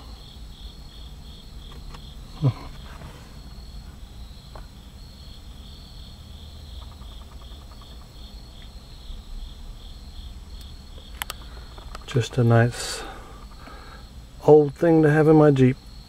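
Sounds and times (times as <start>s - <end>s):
crickets chirping: 0.0s - 16.0s
low steady hum: 0.0s - 16.0s.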